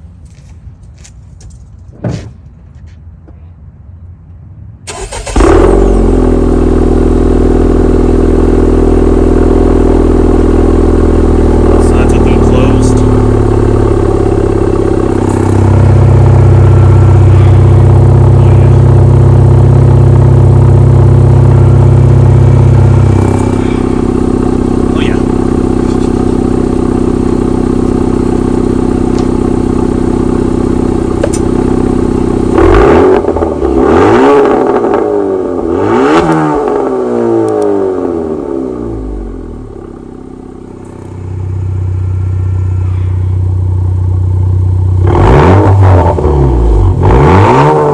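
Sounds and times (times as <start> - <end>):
car engine revving: 4.9 - 44.2, 44.9 - 47.9
car engine idling: 4.9 - 45.5.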